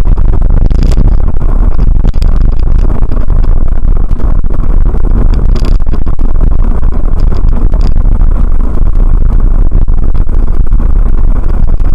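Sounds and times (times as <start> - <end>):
car engine and road rumble: 0.0 - 11.9.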